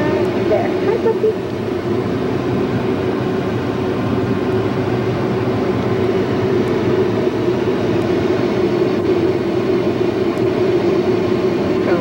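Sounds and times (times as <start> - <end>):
car wash machinery droning: 0.0 - 12.0.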